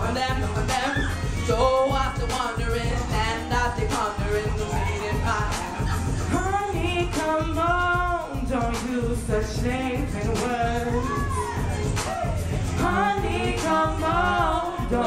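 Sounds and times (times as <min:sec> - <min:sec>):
beat with bass pulse: 0:00.0 - 0:15.0
group vocals singing: 0:00.0 - 0:15.0.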